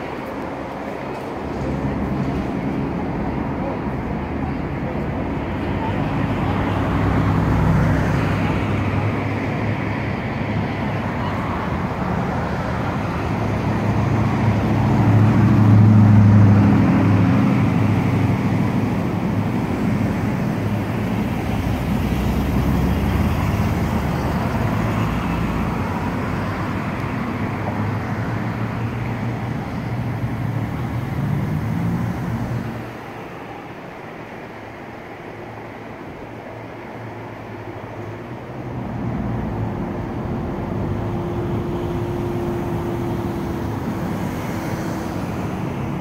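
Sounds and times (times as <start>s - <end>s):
road traffic with engine hum: 0.0s - 46.0s.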